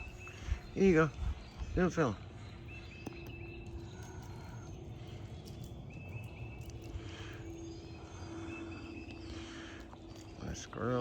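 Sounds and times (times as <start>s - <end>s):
faint bird chirps: 0.0s - 11.0s
steady low hum: 0.0s - 11.0s.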